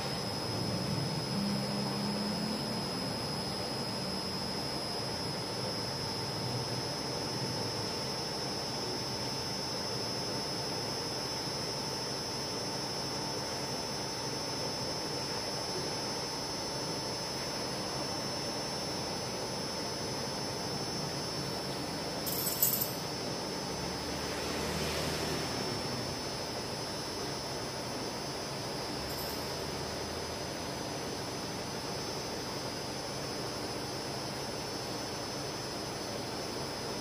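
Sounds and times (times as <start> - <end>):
high steady whine: 0.0 - 37.0.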